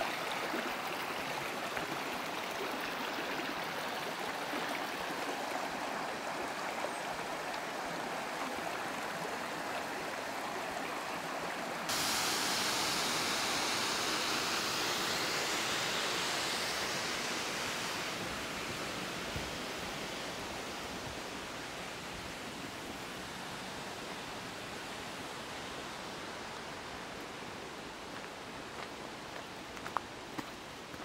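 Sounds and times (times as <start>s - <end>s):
water rushing over rocks: 0.0s - 28.1s.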